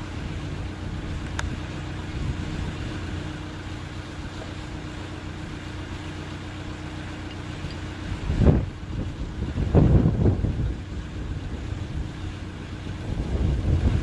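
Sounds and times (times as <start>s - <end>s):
helicopter engines and rotors running: 0.0s - 14.0s.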